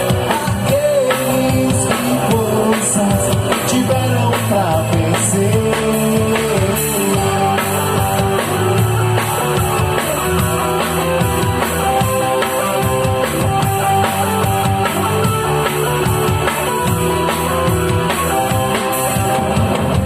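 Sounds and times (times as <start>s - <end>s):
drum kit beat: 0.0s - 20.0s
guitar: 0.0s - 20.0s
live band playing gospel music: 0.0s - 20.0s.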